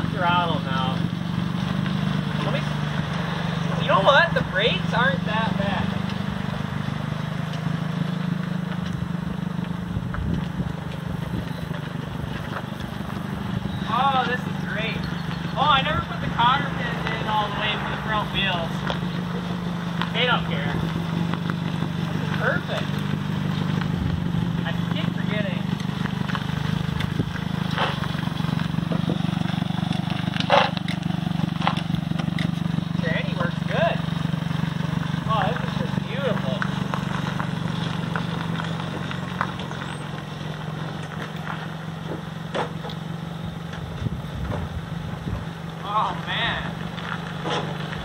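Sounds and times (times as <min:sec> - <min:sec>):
tractor engine idling: 0:00.0 - 0:48.0.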